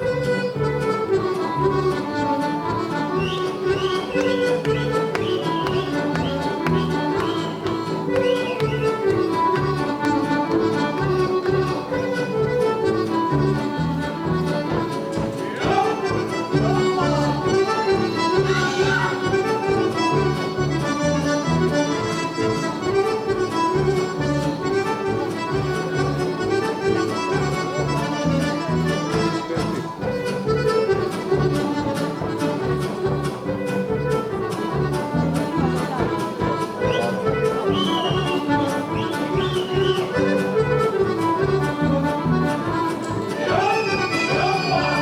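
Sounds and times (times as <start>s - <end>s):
accordion folk dance music: 0.0s - 45.0s.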